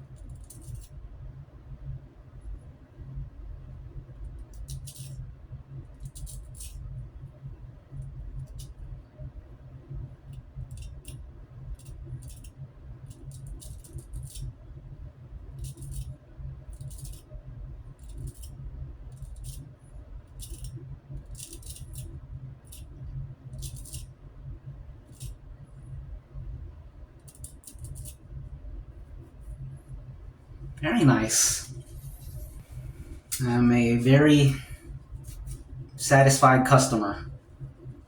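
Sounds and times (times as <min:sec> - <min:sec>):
steady low hum: 0:00.0 - 0:13.7, 0:14.5 - 0:38.0.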